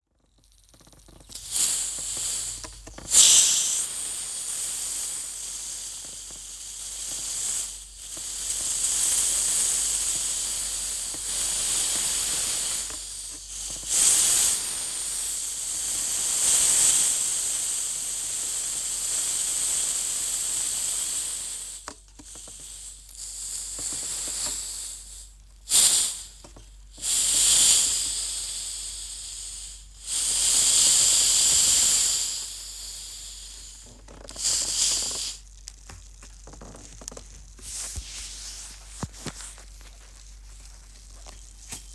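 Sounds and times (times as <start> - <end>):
soda hissing and fizzing: 0.4 - 38.0.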